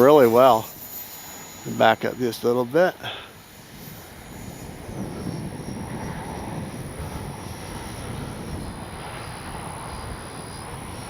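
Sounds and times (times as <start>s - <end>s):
model jet ducted fan rushing: 0.0s - 11.0s.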